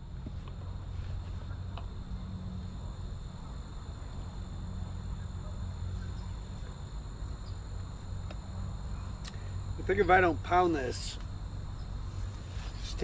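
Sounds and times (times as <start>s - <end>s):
high-pitched insect drone: 0.0s - 13.0s
low steady hum: 0.0s - 13.0s.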